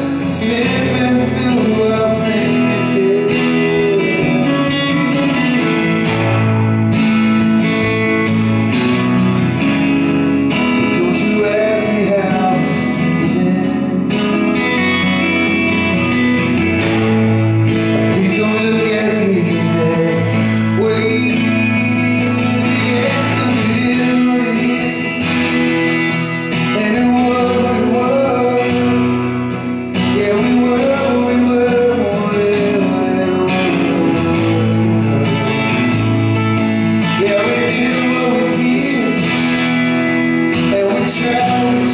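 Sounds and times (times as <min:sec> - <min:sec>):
man singing: 0:00.0 - 0:09.8, 0:10.4 - 0:41.9
acoustic guitar: 0:00.0 - 0:41.9
electric guitar: 0:00.0 - 0:41.9.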